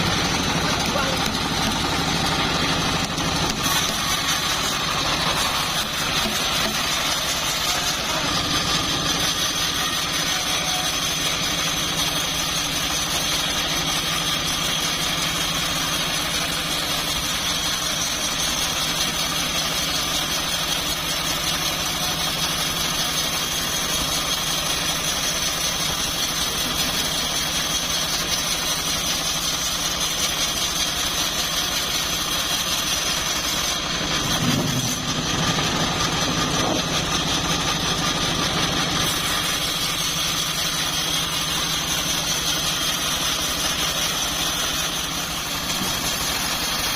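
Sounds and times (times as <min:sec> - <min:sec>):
engine-driven bandsaw mill running: 0:00.0 - 0:46.9.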